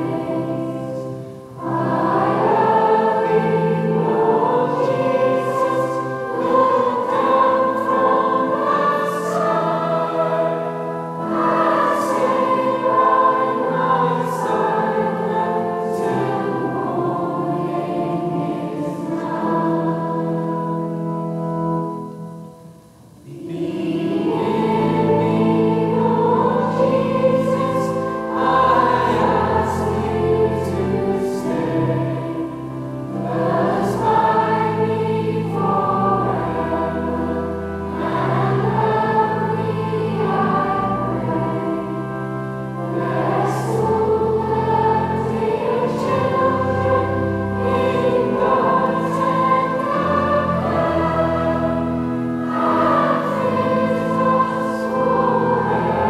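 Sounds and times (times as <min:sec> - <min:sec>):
choir singing a carol: 0:00.0 - 0:56.0.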